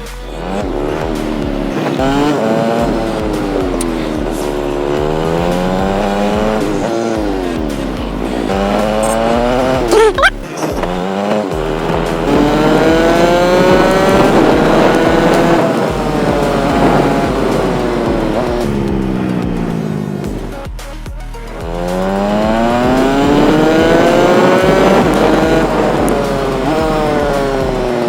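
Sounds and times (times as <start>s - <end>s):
motorcycle engine accelerating: 0.0s - 28.0s
sharp rising sound: 0.4s - 20.6s, 21.7s - 28.0s.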